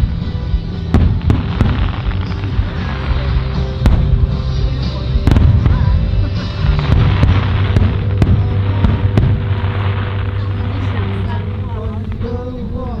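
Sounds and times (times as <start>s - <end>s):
fireworks booming: 0.0s - 13.0s
fireworks cracks: 0.0s - 13.0s
music playing: 0.0s - 13.0s.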